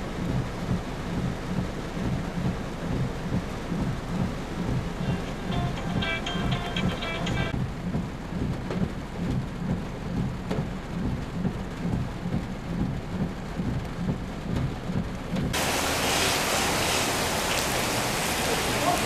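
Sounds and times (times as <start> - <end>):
low pulsing rumble: 0.0 - 18.9
heavy rain: 0.0 - 19.0.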